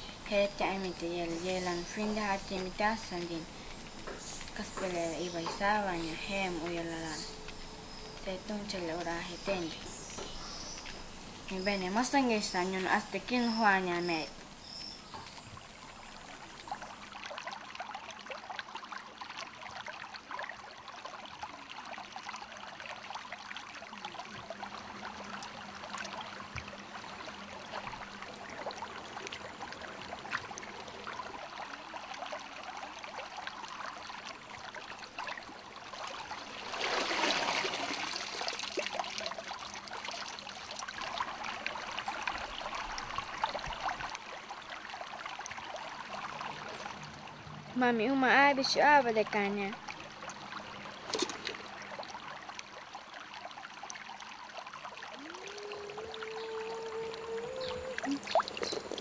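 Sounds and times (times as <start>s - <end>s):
river water trickling and splashing: 0.0s - 59.0s
rush of water: 0.0s - 59.0s.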